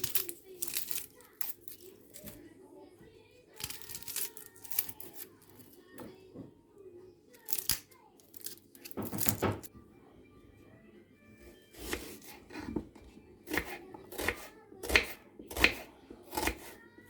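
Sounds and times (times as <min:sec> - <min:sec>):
faint background music: 0:00.0 - 0:17.0.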